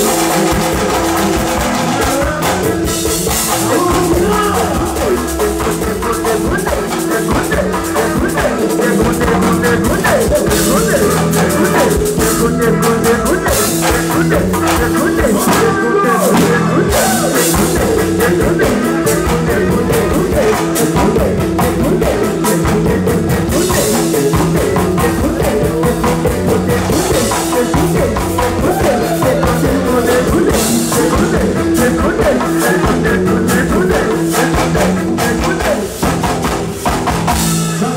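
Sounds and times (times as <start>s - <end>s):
hand drums: 0.0s - 37.8s
drum kit beat: 0.0s - 37.9s
person singing: 0.0s - 37.9s.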